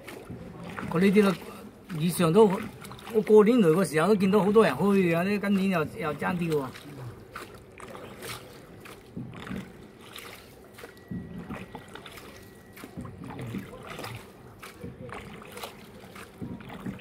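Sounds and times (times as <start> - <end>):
oar knocking against boat: 0.0 - 3.3, 4.3 - 17.0
quiet water: 0.0 - 17.0.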